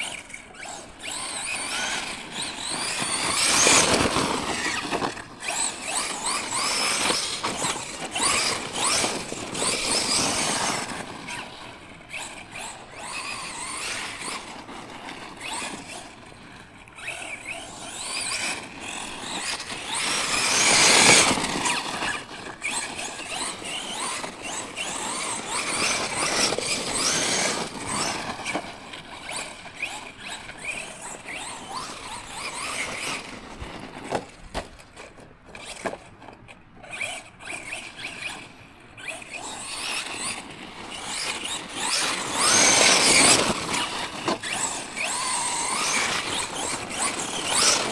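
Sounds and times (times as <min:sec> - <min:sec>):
electric motor whining: 0:00.0 - 0:47.9
tyre and ground noise: 0:00.0 - 0:47.9.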